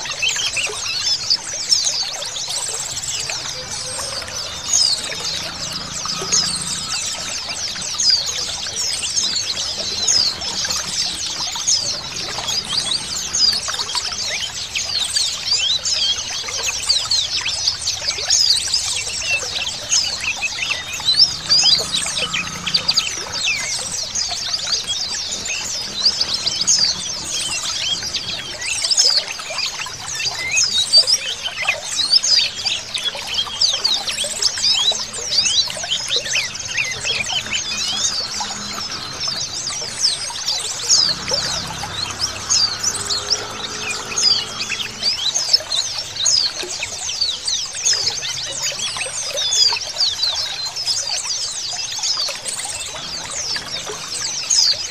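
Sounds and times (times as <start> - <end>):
flock of birds twittering: 0.0 - 54.9.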